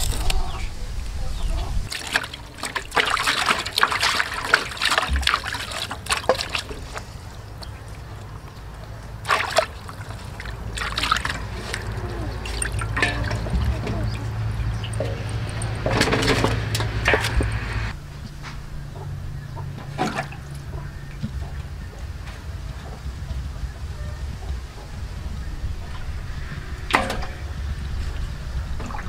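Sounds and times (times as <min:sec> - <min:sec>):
water sloshing in metal basin: 0:01.8 - 0:18.0, 0:18.9 - 0:23.6, 0:24.2 - 0:29.0
water trickling and dripping: 0:01.8 - 0:18.0, 0:19.9 - 0:29.0.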